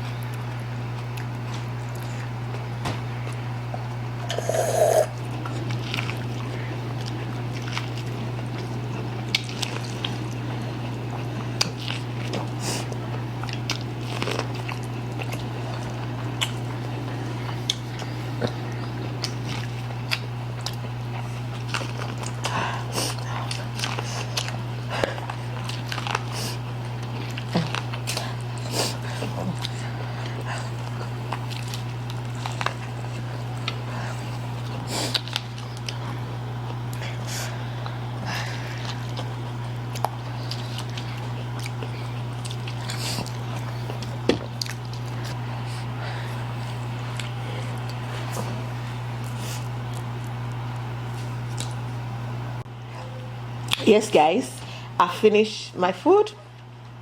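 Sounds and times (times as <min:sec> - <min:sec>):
chewing and biting food: 0:00.0 - 0:52.0
steady low hum: 0:00.0 - 0:57.0.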